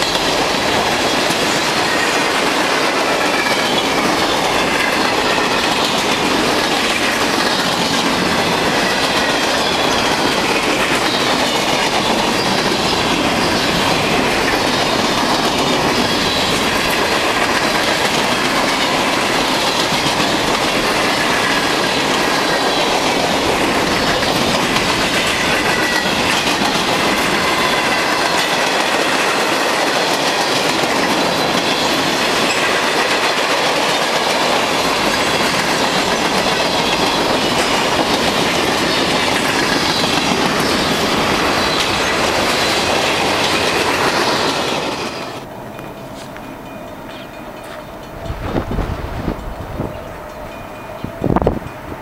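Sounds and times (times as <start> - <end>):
wheels clacking over rail joints: 0.0 - 51.8
freight train wheels rumbling: 0.0 - 52.0.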